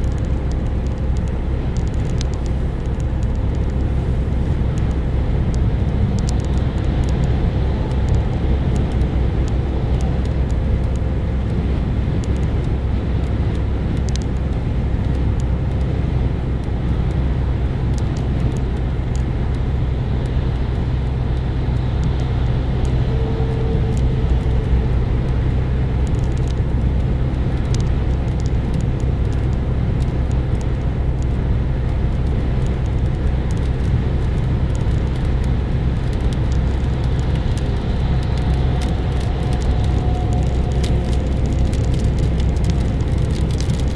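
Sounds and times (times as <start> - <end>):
car interior road and engine noise: 0.0 - 43.9
raindrops ticking on windscreen: 0.0 - 43.9.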